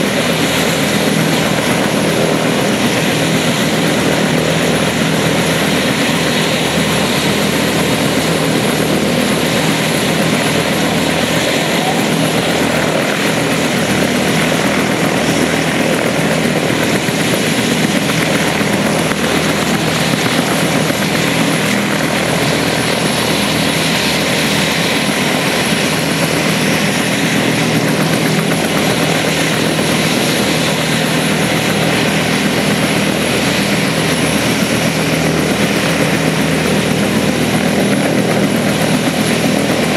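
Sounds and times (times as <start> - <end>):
helicopter rotor turning: 0.0 - 39.9
helicopter turbine engine: 0.0 - 39.9.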